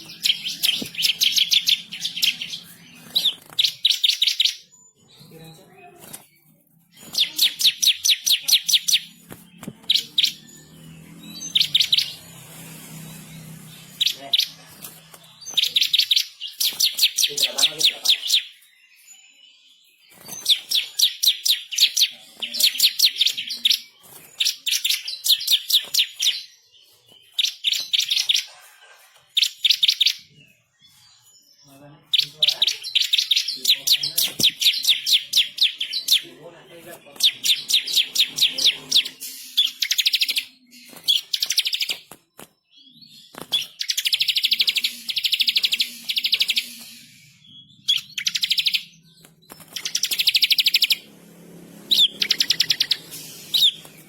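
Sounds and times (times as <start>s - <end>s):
bird singing rapid high chirps: 0.0s - 28.5s, 29.4s - 54.0s.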